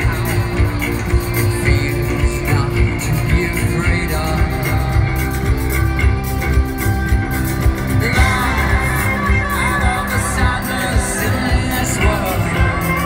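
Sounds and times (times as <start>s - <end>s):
man singing: 0.0s - 6.0s, 7.8s - 13.0s
rock band playing live: 0.0s - 13.0s.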